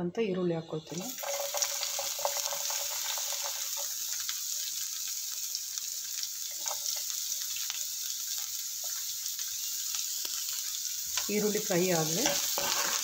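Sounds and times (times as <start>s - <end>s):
onion sizzling in a frying pan: 0.6s - 13.0s
oil crackling: 1.0s - 13.0s.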